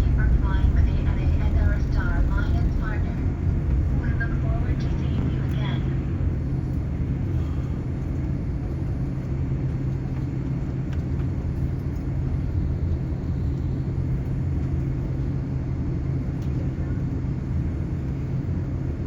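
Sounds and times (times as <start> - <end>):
airliner cabin rumble and hum: 0.0 - 19.0.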